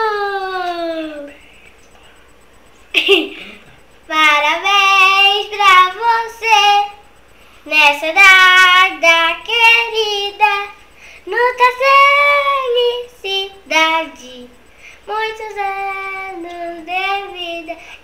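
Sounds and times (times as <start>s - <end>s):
girl singing unaccompanied: 0.0s - 1.4s, 4.1s - 18.0s.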